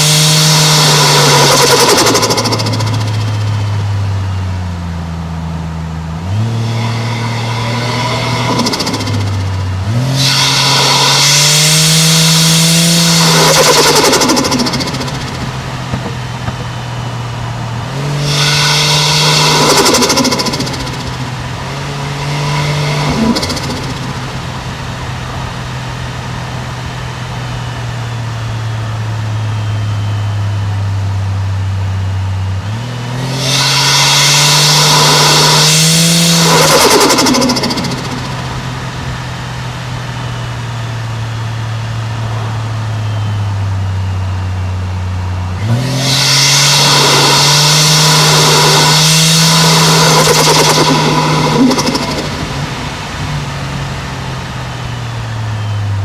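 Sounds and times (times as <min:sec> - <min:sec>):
turbo flutter: 0:00.0 - 0:04.0, 0:06.4 - 0:27.3, 0:33.3 - 0:43.3, 0:45.8 - 0:56.0
car engine accelerating: 0:00.0 - 0:56.0.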